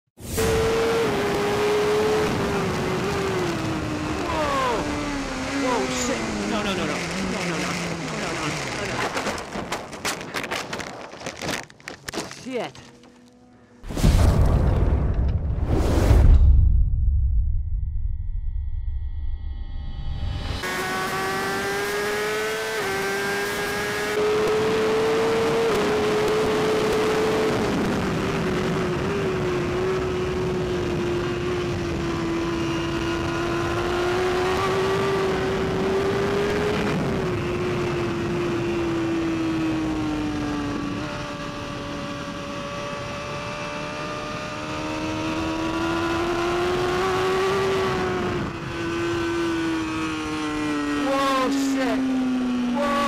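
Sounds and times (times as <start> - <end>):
motorcycle engine at high revs: 0.2 - 10.5, 20.6 - 53.0.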